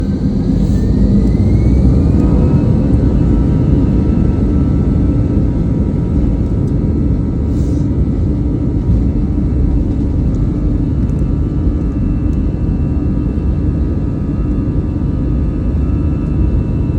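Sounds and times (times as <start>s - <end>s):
engine whine rising in pitch: 0.0s - 16.9s
jet engines rumbling: 0.0s - 16.9s.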